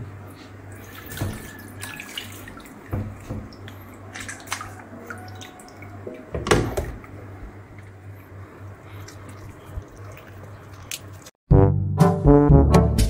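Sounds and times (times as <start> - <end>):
low steady hum: 0.0 - 11.3
wet handling of frogs in sink: 0.4 - 11.4.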